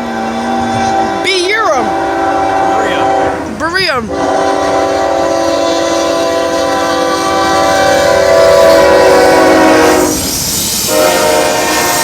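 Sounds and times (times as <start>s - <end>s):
locomotive air horn blast: 0.0s - 3.5s, 4.1s - 12.0s.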